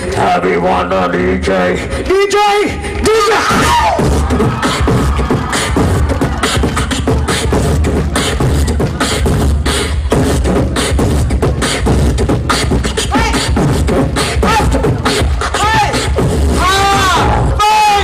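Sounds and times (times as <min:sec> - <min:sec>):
beatboxing into a microphone: 0:00.0 - 0:18.0
deep bass: 0:02.7 - 0:18.0.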